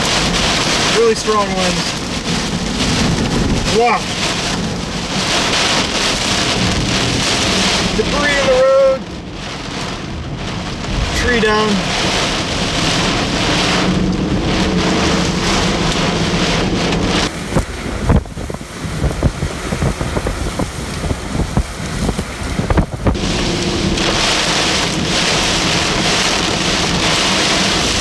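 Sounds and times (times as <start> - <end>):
heavy rain and wind on car: 0.0 - 28.0.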